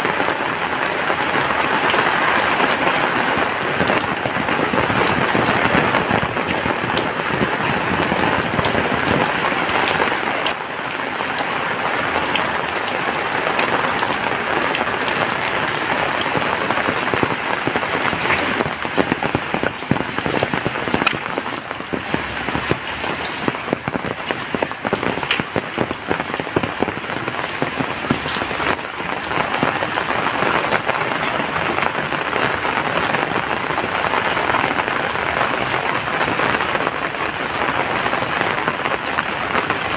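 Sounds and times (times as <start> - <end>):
heavy rain falling: 0.0 - 39.9
raindrops ticking on surface: 0.0 - 39.9.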